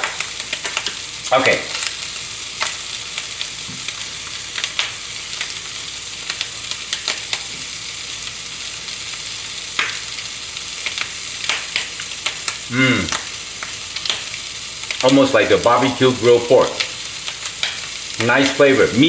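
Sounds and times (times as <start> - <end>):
stir fry sizzling in a pan: 0.0 - 19.0.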